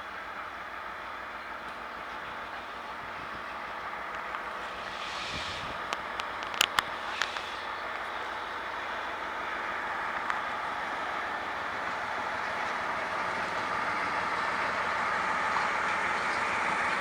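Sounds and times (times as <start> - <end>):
train running: 0.0 - 17.0.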